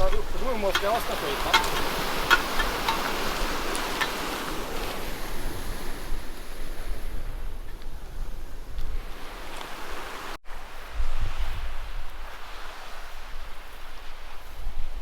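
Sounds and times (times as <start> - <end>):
sea surf washing in: 0.0 - 15.0
wind: 0.0 - 15.0.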